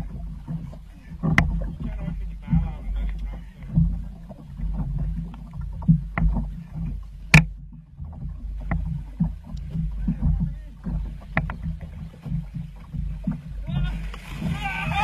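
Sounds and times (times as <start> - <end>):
boat engine rumble: 0.0 - 15.0
irregular knocks: 0.0 - 15.0.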